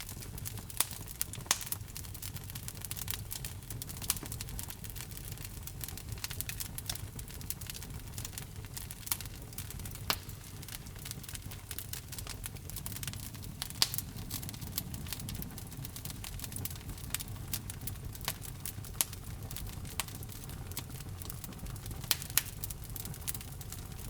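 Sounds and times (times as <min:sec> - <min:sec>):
loud fire snaps: 0:00.0 - 0:24.0
low rumble of flames: 0:00.0 - 0:24.0
wood fire crackling: 0:00.0 - 0:24.0.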